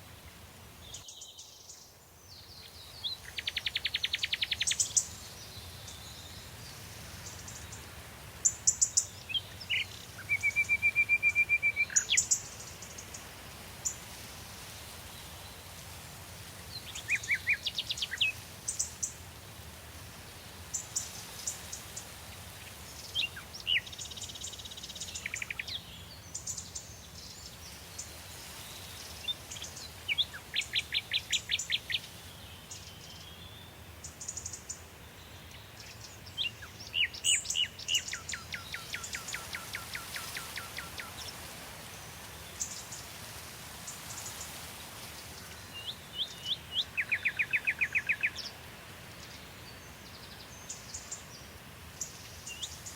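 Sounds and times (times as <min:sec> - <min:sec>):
faint steady hiss: 0:00.0 - 0:52.9
songbirds chirping: 0:00.0 - 0:52.9.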